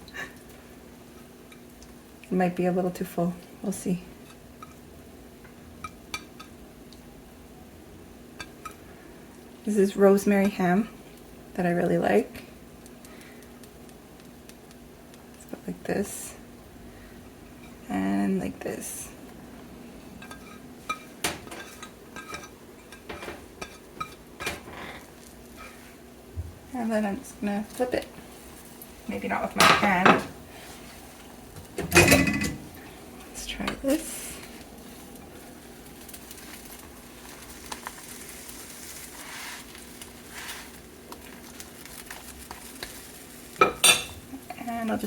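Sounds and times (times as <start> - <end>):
omelette sizzling in a pan: 0.0 - 19.0, 20.1 - 45.0.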